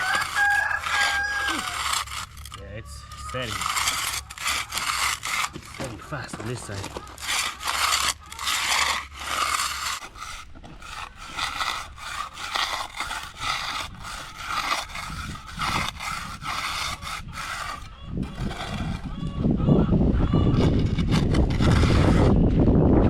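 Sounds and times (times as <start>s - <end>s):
tool scraping concrete: 0.0s - 22.5s.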